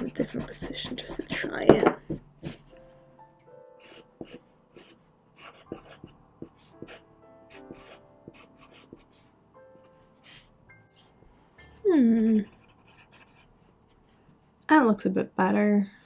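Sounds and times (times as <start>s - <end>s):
pencil scratching on paper: 0.0s - 2.8s, 3.8s - 14.6s
soft piano music: 0.0s - 13.4s.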